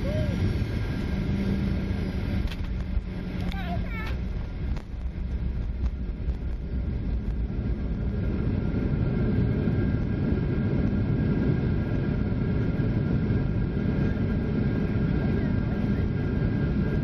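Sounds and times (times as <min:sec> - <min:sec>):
airplane cabin low roar: 0:00.0 - 0:17.0.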